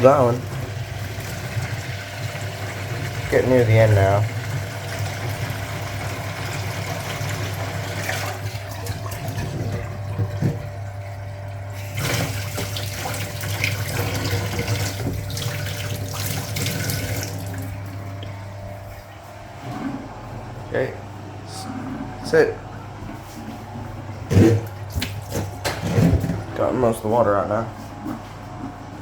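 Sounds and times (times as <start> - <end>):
washing machine drain pump humming: 0.0 - 29.0.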